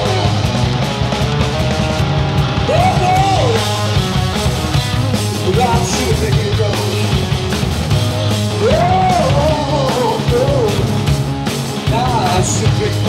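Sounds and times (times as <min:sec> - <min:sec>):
blues rock band playing: 0:00.0 - 0:13.0
sliding guitar lead line: 0:00.0 - 0:13.0.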